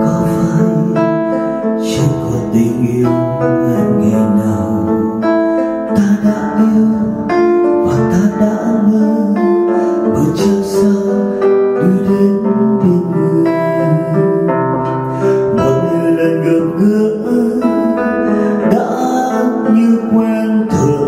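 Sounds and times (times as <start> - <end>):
slow ballad with guitar: 0.0 - 21.0.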